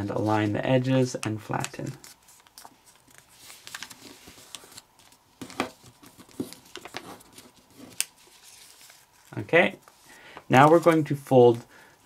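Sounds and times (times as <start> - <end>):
paper rustling and crinkling: 0.0 - 11.7.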